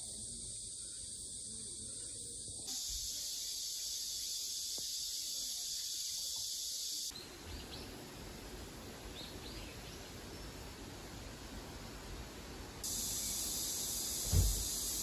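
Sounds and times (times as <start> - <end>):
insect chorus buzzing: 0.0 - 15.0.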